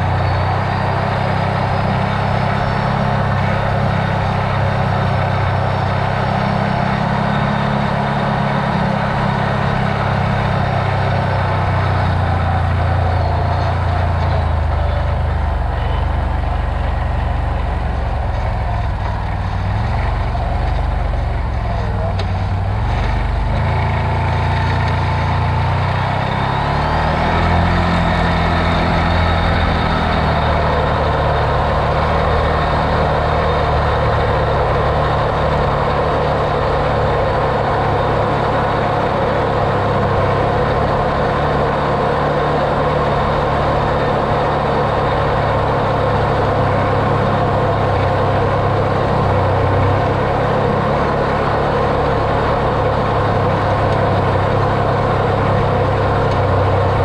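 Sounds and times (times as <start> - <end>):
off-road vehicle engine driving: 0.0 - 57.0.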